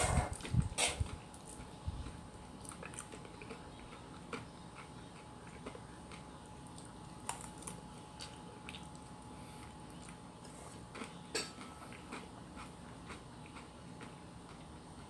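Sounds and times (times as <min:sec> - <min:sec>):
faint electrical hum: 0:00.0 - 0:15.0
faint chewing: 0:00.3 - 0:15.0.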